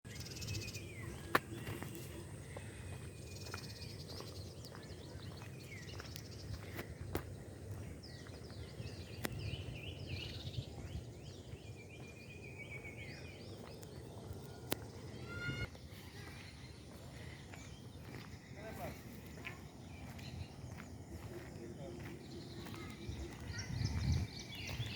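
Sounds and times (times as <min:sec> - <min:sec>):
birds chirping: 0:00.1 - 0:24.9.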